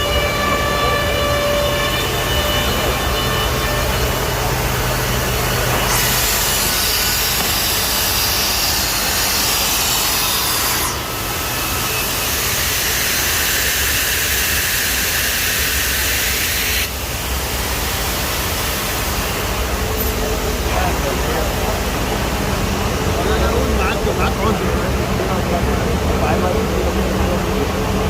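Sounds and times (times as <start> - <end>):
edgebanding machine running: 0.0 - 28.0.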